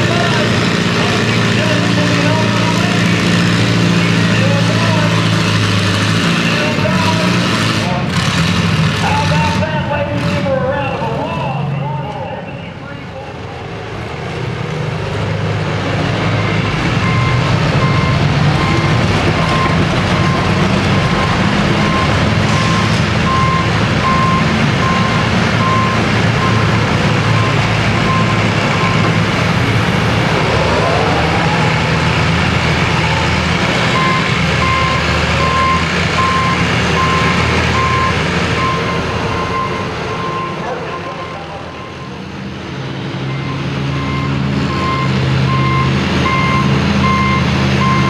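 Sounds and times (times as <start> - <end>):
tractor engine running hard: 0.0 - 48.0.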